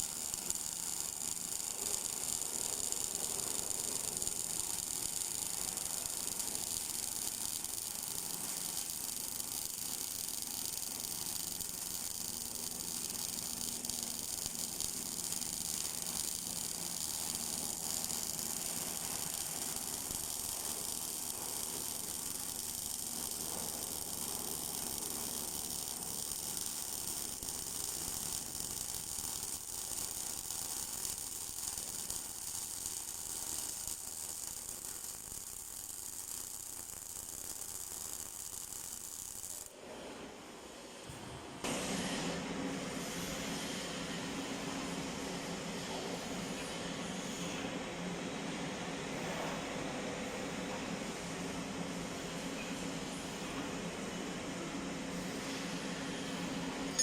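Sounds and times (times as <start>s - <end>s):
welding arc hiss and buzz: 0.0s - 39.9s, 41.1s - 57.0s.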